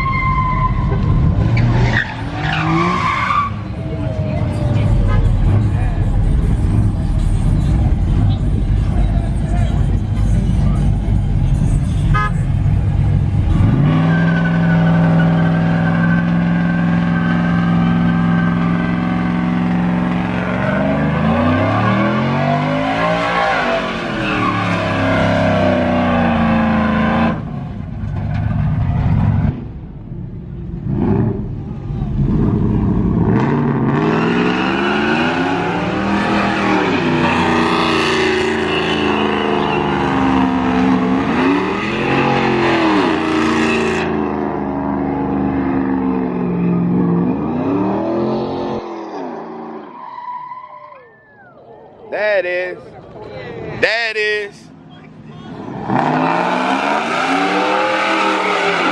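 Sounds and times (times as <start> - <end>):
car engine revving: 0.8 - 50.0, 55.6 - 58.9.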